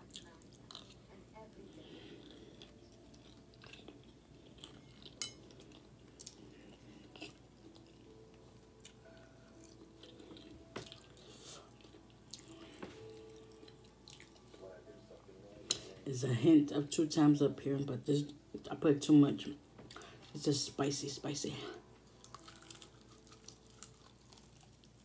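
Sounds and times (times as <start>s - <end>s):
soft chewing: 0.0s - 16.1s, 19.8s - 20.4s, 21.5s - 25.0s.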